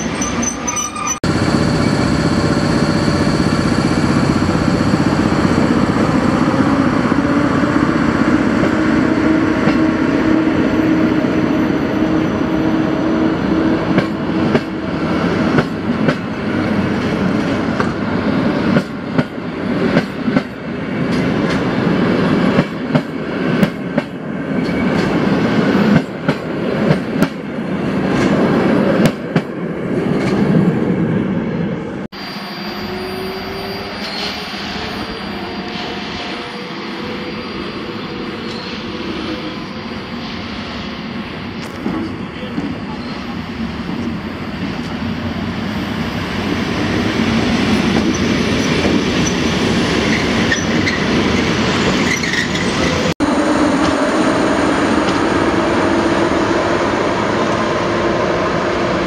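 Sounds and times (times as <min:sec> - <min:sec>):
train rolling past: 0:00.0 - 0:59.0.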